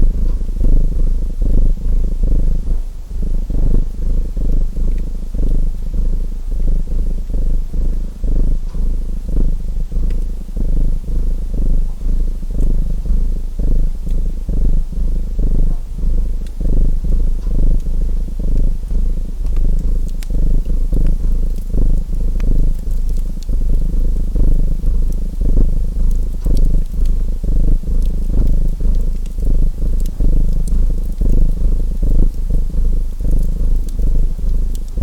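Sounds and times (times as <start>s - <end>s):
cat purring: 0.0s - 35.0s
fireplace crackling: 0.0s - 35.0s.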